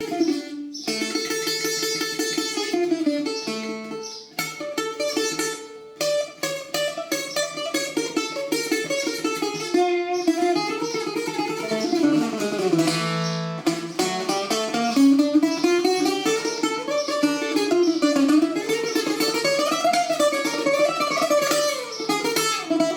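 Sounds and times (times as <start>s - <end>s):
bouzouki melody: 0.0s - 22.9s.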